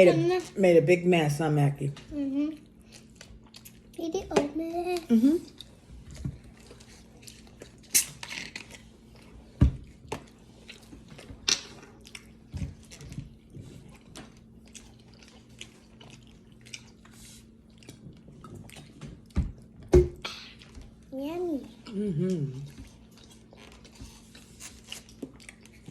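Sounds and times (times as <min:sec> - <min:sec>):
chewing and mouth sounds: 0:02.5 - 0:21.1, 0:21.7 - 0:25.9.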